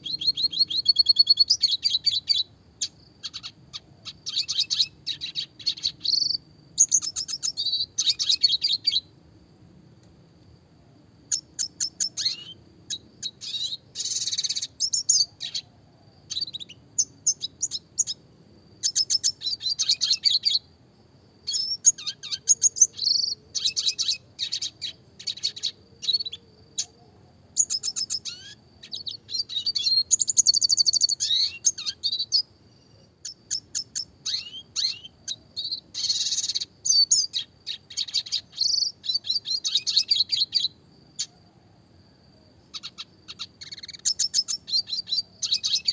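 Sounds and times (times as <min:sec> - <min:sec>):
bird singing trills and chirps: 0:00.0 - 0:09.1, 0:11.3 - 0:20.7, 0:21.4 - 0:45.9.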